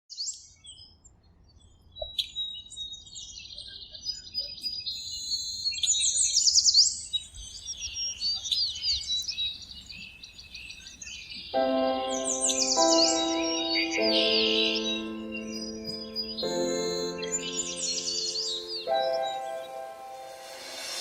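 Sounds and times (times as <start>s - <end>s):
songbirds chirping and singing: 1.6s - 21.0s.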